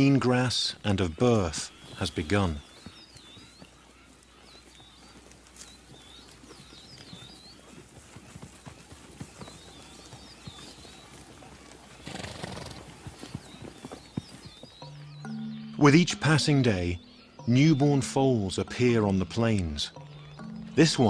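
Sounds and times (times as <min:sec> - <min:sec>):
faint hooves stepping: 0:00.0 - 0:21.0
small birds chirping: 0:00.0 - 0:21.0.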